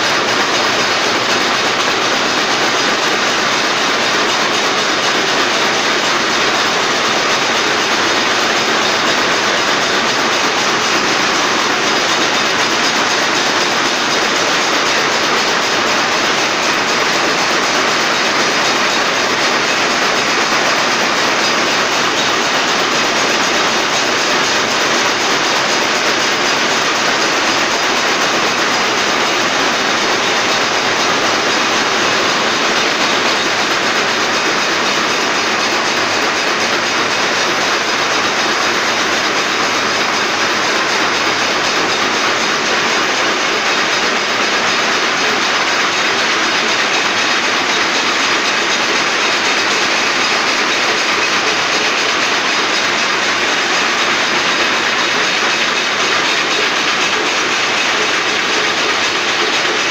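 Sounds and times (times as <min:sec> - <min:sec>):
mechanical running noise: 0:00.0 - 0:59.9.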